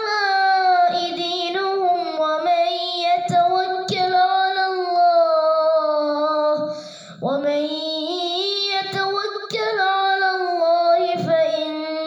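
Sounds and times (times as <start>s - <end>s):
boy reciting melodically: 0.0s - 12.0s.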